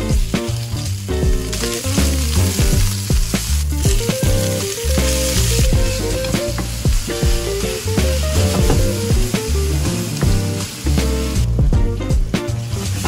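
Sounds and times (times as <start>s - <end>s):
background music with bass: 0.0s - 13.0s
onions sizzling in oil: 0.0s - 13.0s.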